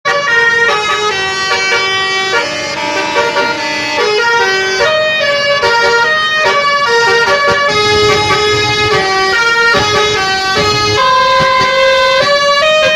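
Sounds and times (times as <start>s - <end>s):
musical bus horn: 0.1s - 12.9s.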